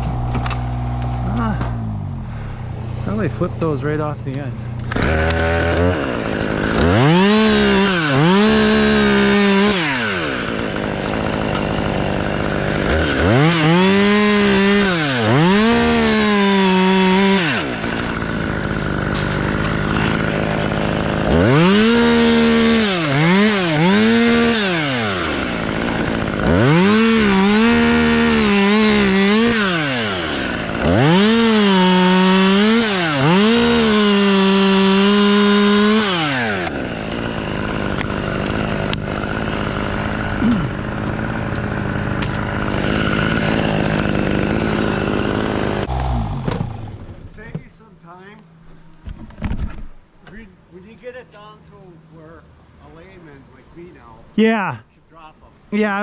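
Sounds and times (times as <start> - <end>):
chainsaw cutting tree limbs: 0.0 - 47.5.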